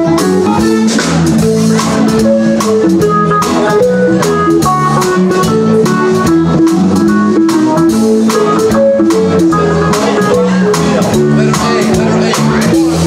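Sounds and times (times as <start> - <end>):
drum beat: 0.0 - 13.0
electric bass guitar: 0.0 - 13.0.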